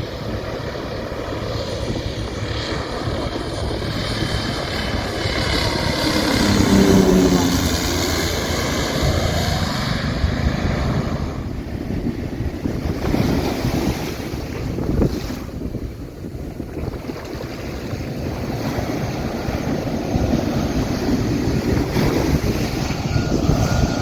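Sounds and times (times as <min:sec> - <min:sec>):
jet engines passing overhead: 0:00.0 - 0:24.0.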